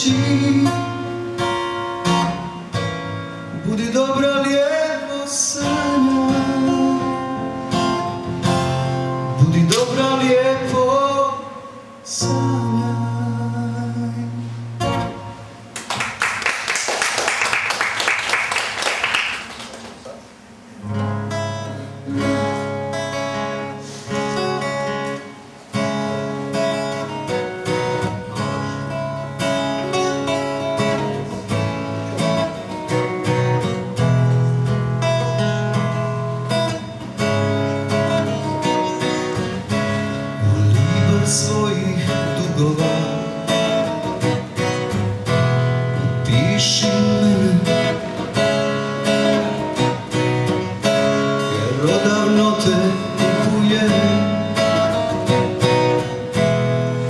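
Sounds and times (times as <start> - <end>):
acoustic guitar chords picked: 0.0 - 57.0.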